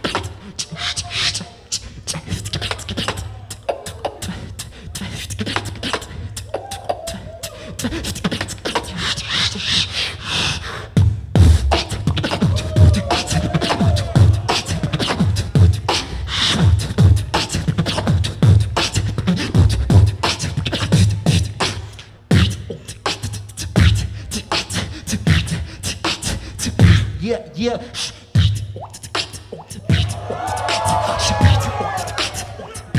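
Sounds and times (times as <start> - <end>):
person beatboxing into microphone: 0.0 - 32.9.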